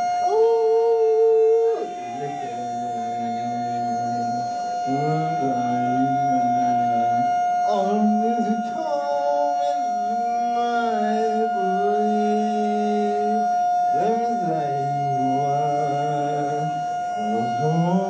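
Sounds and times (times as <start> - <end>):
high droning tone: 0.0 - 18.0
person singing wordless howl-like notes: 0.0 - 18.0.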